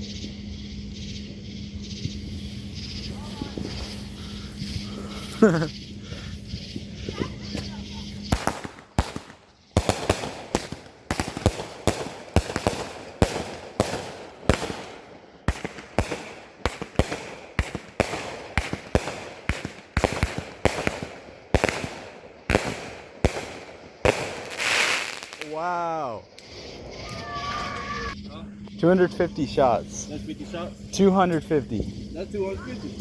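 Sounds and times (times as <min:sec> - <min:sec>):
firework bangs: 0:01.0 - 0:28.1.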